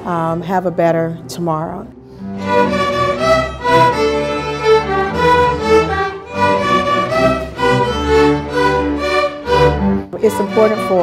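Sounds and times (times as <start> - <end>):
string orchestra playing: 0.0 - 11.0
violins bowing a melody: 1.5 - 11.0.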